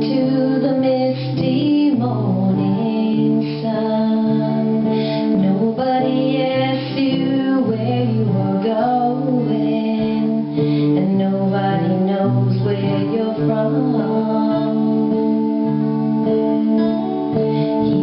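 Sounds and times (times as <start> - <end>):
guitar: 0.0 - 18.0
woman singing: 0.0 - 18.0.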